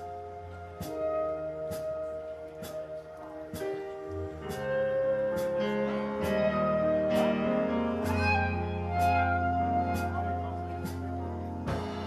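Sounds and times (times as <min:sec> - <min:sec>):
held guitar notes: 0:00.0 - 0:12.0
steady drum beat: 0:00.0 - 0:12.0.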